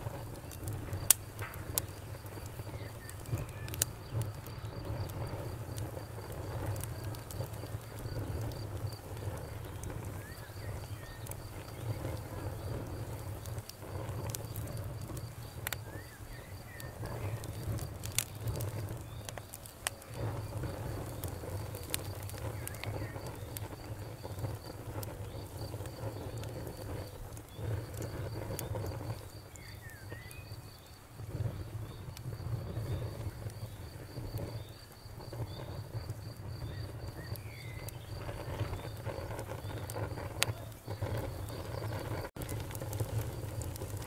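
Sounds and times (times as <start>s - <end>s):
logs crackling and popping: 0.0s - 44.0s
low rumble of flames: 0.0s - 44.0s.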